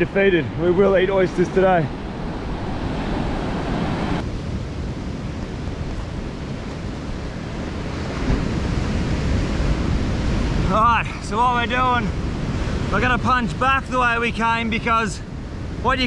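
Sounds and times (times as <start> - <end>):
wind buffeting microphone: 0.0 - 14.6.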